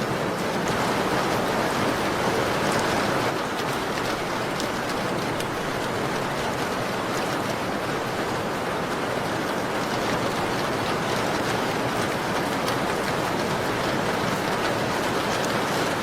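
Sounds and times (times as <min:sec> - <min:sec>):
rain against a window: 0:00.0 - 0:16.0.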